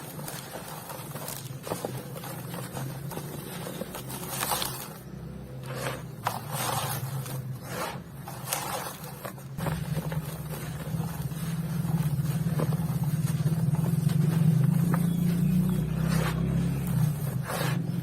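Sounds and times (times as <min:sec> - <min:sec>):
crumbly material crunching: 0:00.0 - 0:18.0
steady low hum: 0:00.0 - 0:18.0.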